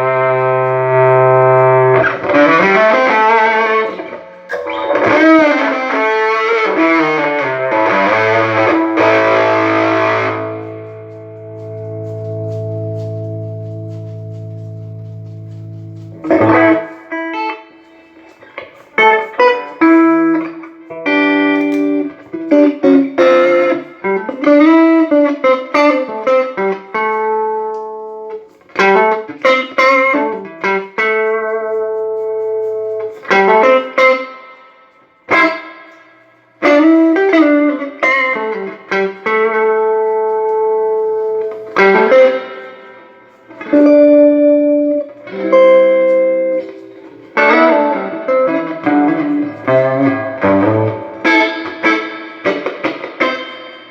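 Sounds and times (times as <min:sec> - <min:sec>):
electric guitar with string bends: 0:00.0 - 0:53.9.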